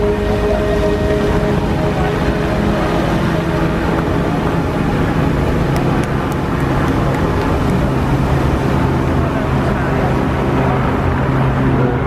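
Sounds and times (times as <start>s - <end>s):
fountain water rushing: 0.0s - 12.0s
low steady tones: 0.0s - 12.0s.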